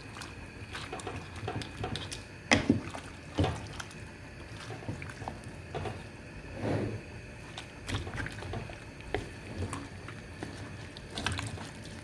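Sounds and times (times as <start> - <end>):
wet shuffling of meat: 0.0 - 6.1, 7.3 - 12.0.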